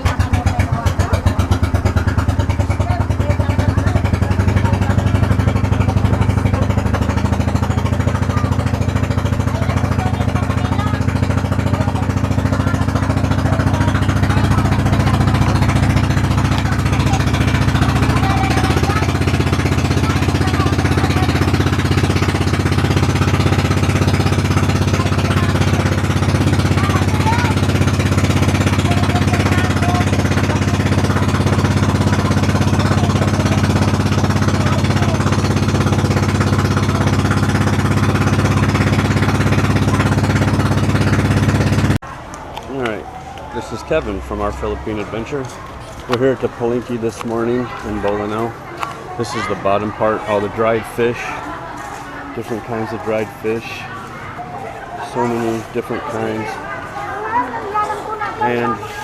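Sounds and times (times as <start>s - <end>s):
boat engine chugging: 0.0s - 59.0s.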